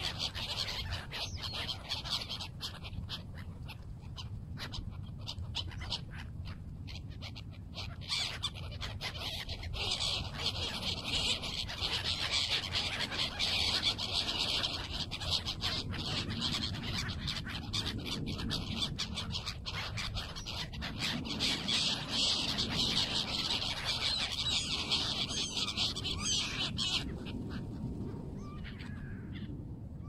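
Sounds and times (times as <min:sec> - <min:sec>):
gulls calling: 0:00.0 - 0:30.0
low steady rumble: 0:00.0 - 0:30.0.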